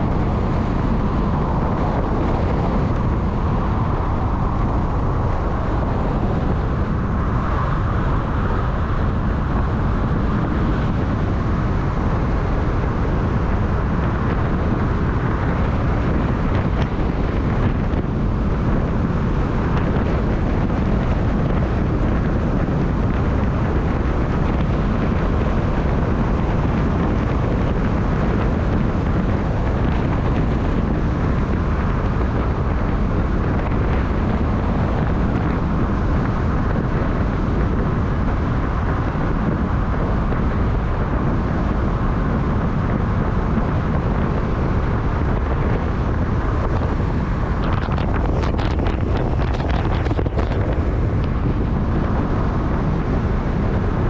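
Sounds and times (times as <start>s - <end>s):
moving vehicle rumble: 0.0s - 54.0s
wind buffeting microphone: 0.0s - 54.0s.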